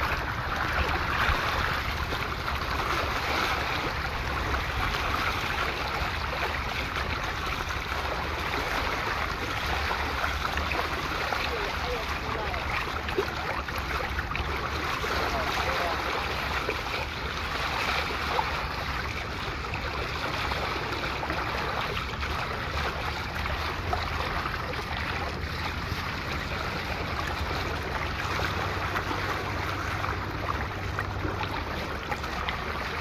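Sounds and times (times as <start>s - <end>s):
water splashing along hull: 0.0s - 33.0s.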